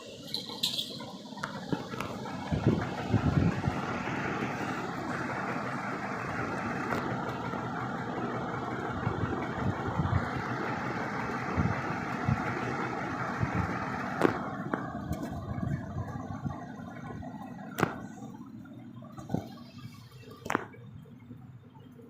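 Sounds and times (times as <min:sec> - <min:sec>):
ceiling fan whirring: 0:00.0 - 0:22.0.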